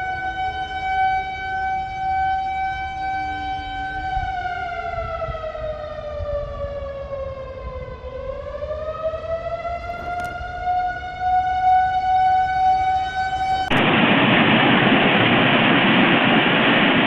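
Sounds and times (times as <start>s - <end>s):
warning siren wailing: 0.0s - 14.0s.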